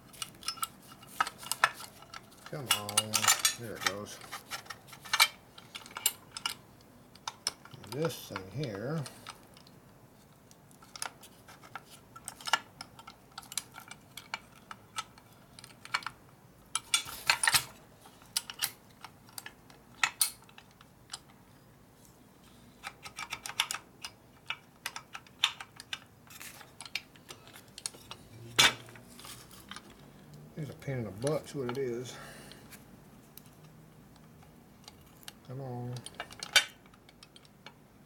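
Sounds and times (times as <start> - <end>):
metallic clicks of steel parts: 0.1 - 9.7, 10.7 - 21.4, 22.8 - 37.8.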